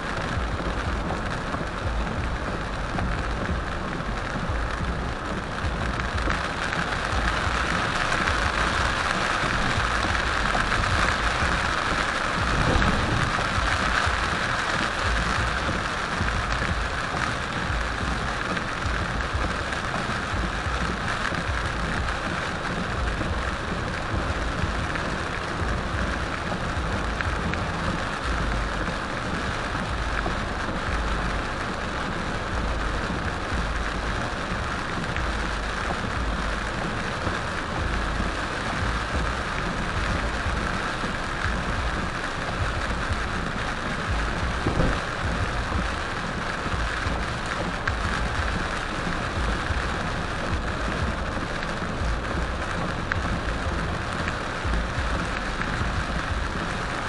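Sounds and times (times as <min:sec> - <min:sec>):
heavy rain on car roof: 0:00.0 - 0:57.0
road and tyre noise: 0:00.0 - 0:57.0.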